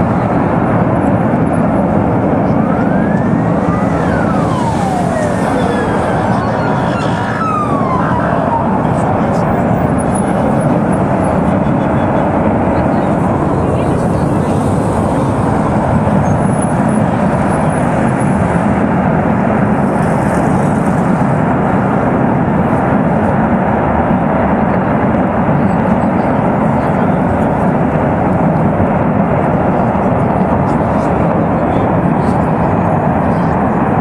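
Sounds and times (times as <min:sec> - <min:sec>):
roar of gas burning: 0:00.0 - 0:34.0.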